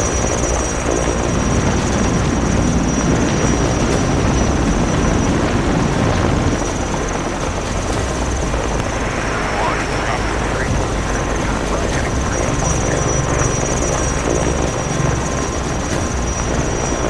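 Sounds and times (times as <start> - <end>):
helicopter rotor chop: 0.0 - 17.0
turbine whine: 0.0 - 17.0.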